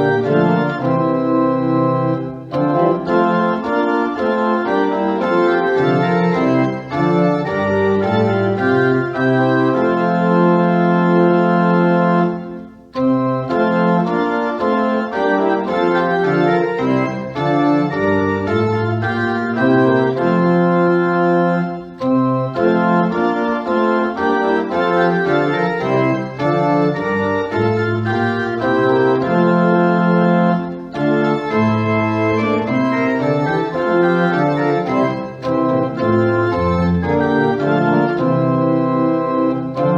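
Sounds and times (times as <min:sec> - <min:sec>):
organ playing held chords: 0:00.0 - 0:39.9.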